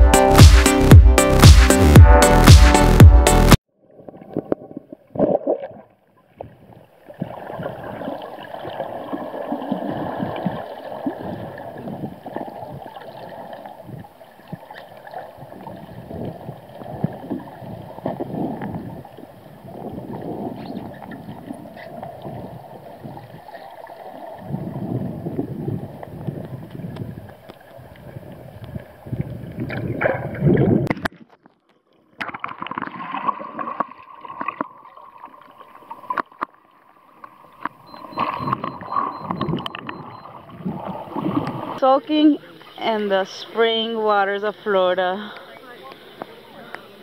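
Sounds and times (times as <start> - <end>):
underwater rushing and gurgling: 3.9 - 31.3, 32.2 - 47.0.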